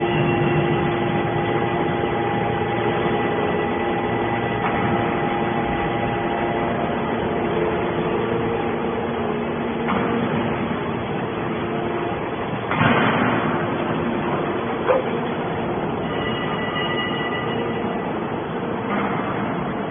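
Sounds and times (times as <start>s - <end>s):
hydraulic baler humming and whining: 0.0s - 19.9s.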